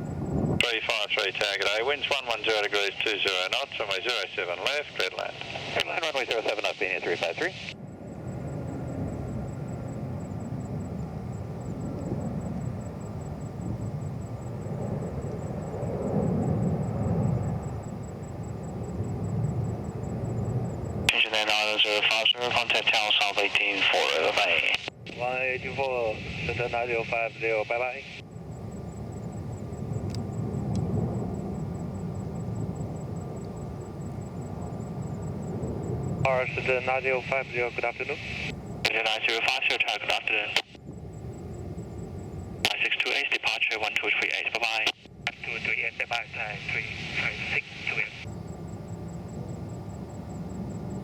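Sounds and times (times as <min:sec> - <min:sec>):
distant jet engine rumble: 0:00.0 - 0:51.0.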